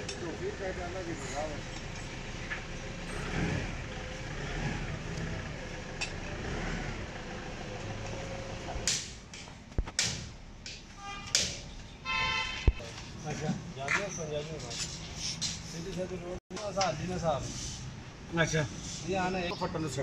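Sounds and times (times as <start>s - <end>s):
low street noise: 0.0s - 20.0s.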